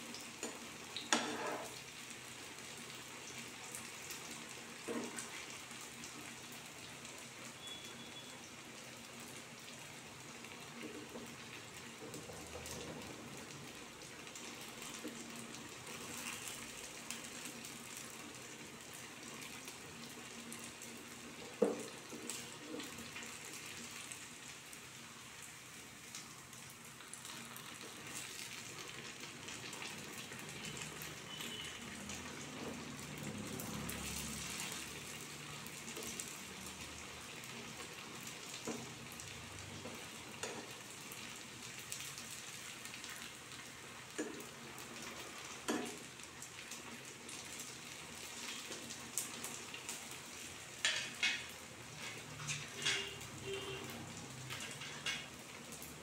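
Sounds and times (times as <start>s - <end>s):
fritters sizzling in hot oil: 0.0s - 56.0s.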